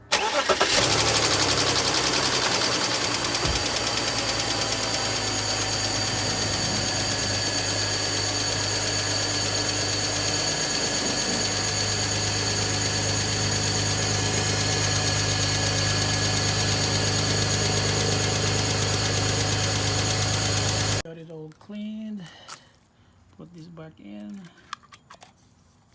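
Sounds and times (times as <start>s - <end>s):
car engine idling: 0.2s - 21.0s.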